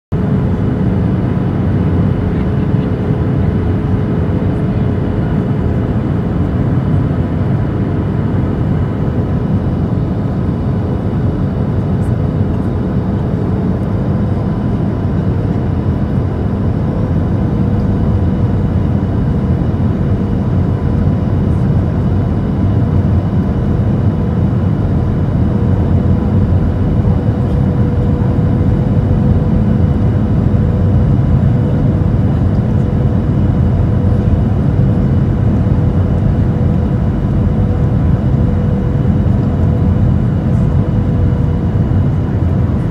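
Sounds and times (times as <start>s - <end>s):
jet engine drone: 0.1s - 42.9s.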